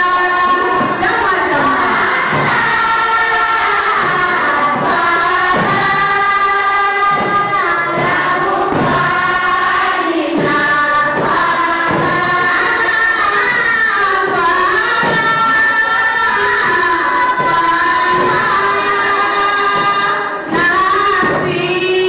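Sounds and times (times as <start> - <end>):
women chanting together: 0.0 - 22.0
frame drums struck: 0.4 - 21.9.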